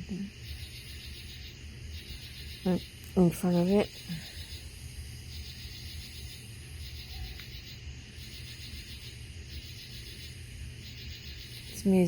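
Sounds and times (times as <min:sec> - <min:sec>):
insects singing in pulsing chorus: 0:00.0 - 0:12.0
steady low rumble: 0:00.0 - 0:12.0.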